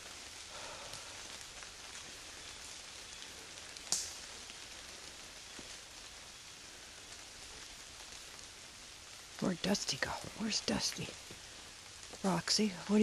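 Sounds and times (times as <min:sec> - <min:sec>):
light rain pattering on leaves: 0:00.0 - 0:13.0.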